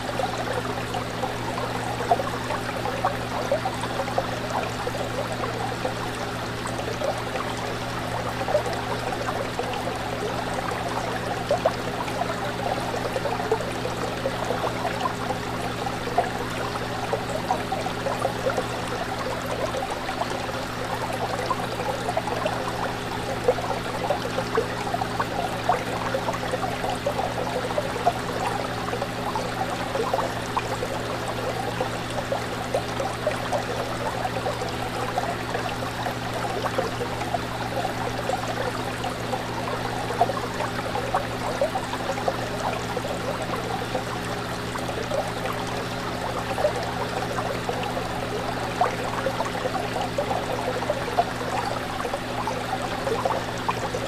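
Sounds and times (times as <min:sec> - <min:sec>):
fish tank water bubbling: 0:00.0 - 0:54.0.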